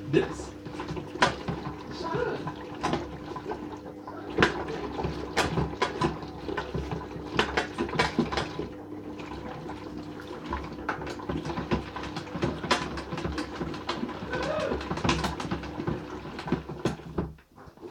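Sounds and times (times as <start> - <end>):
water sloshing and splashing: 0.5 - 17.9.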